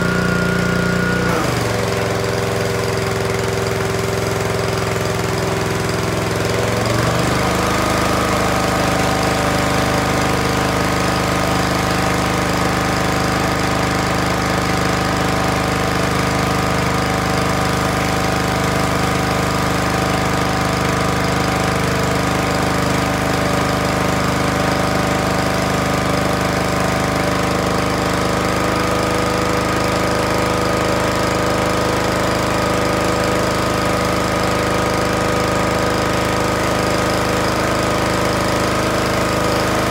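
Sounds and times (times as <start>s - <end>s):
pressure washer engine spraying: 0.0s - 39.9s.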